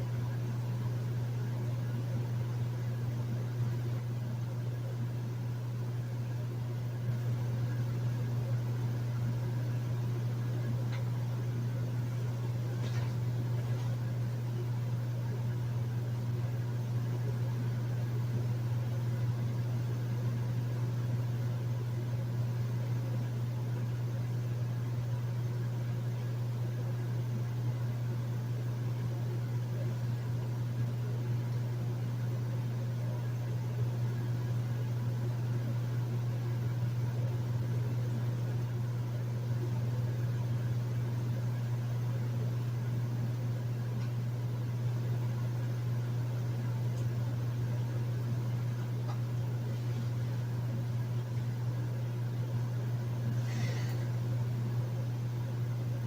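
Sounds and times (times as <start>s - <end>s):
air conditioner humming: 0.0s - 56.0s.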